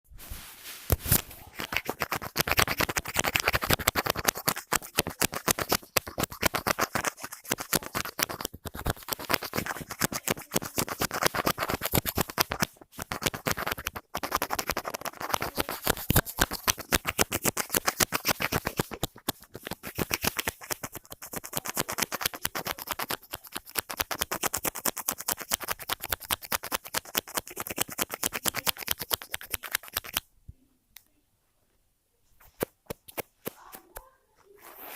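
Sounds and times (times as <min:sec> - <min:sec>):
scratching and tapping: 0:00.9 - 0:30.3, 0:32.4 - 0:34.9.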